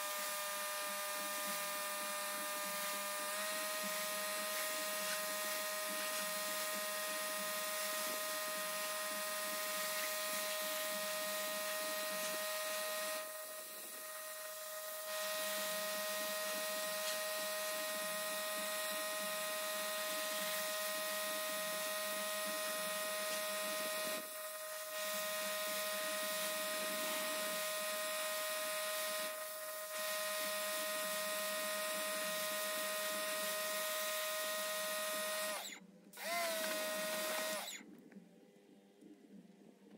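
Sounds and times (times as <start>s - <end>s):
small electric motor whining: 0.0s - 38.0s.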